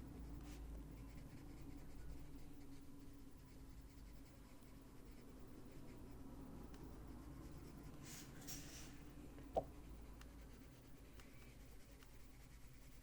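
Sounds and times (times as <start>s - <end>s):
coloured pencil scratching on paper: 0.0s - 9.0s, 9.7s - 13.0s
low steady hum: 0.0s - 13.0s.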